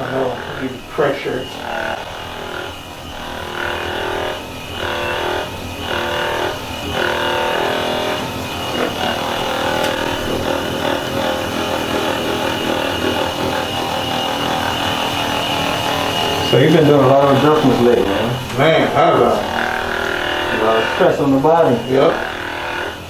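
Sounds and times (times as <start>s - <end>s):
electric massager motor hum: 0.0s - 23.0s.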